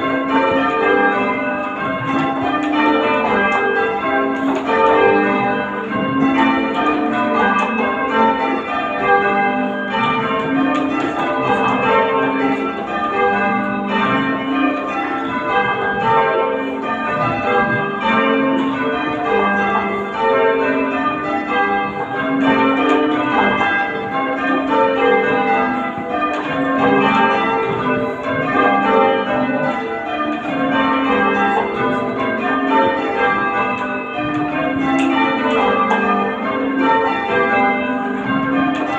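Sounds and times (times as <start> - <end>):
church bells ringing changes: 0.0 - 38.9.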